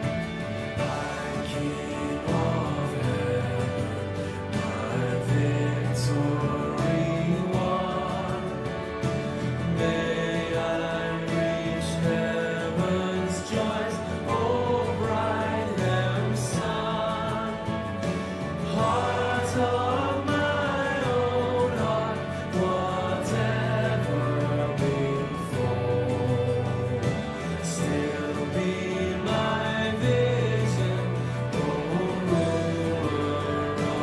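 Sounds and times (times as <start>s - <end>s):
congregation singing: 0.0s - 34.0s
instrumental accompaniment: 0.0s - 34.0s.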